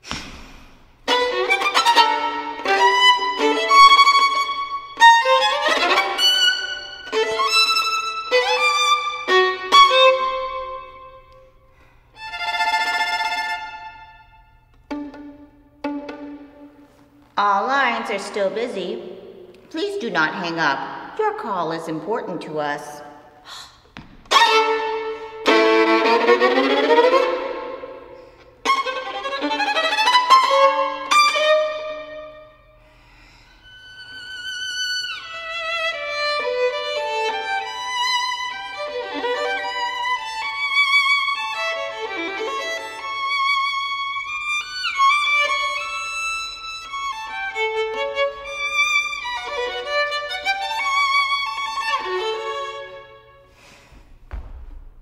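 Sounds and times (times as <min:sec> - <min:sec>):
solo violin playing: 0:01.0 - 0:17.2, 0:24.3 - 0:32.7, 0:33.6 - 0:53.7.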